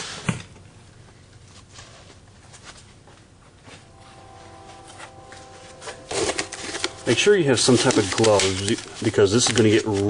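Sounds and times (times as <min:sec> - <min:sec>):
faint steady hum: 0:00.3 - 0:10.0.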